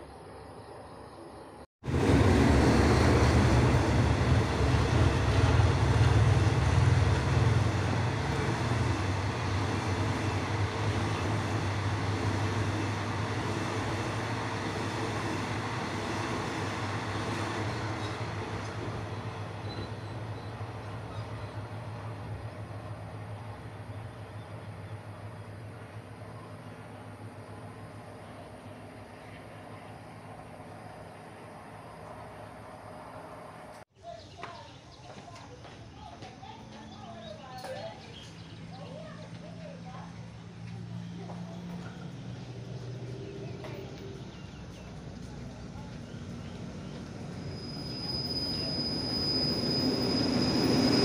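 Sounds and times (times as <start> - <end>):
passenger train rumbling past: 1.8 - 33.9, 35.9 - 51.0.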